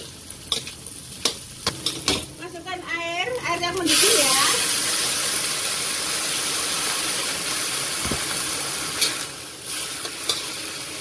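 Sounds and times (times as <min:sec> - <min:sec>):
water hissing in hot pan: 0:00.0 - 0:02.5, 0:03.2 - 0:11.0.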